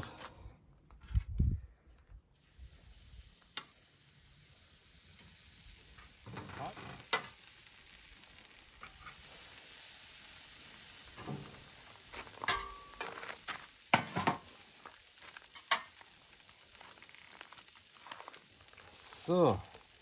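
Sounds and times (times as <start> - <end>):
meat sizzling on a charcoal grill: 2.3 - 20.0.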